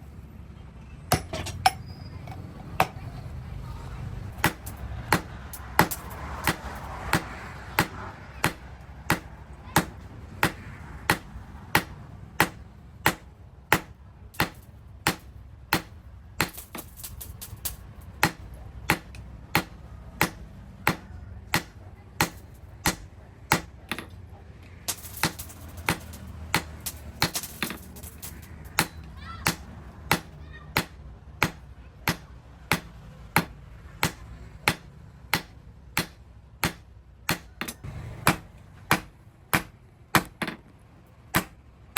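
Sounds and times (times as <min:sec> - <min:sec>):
hammer striking steel on anvil: 0:04.4 - 0:24.1, 0:24.9 - 0:40.6, 0:41.4 - 0:41.6.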